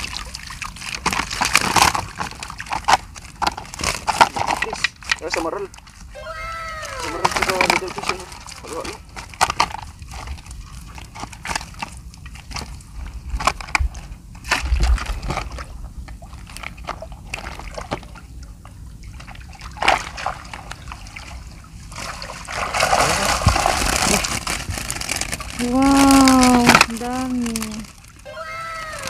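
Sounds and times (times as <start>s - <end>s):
seawater sloshing and splashing: 0.0s - 29.0s.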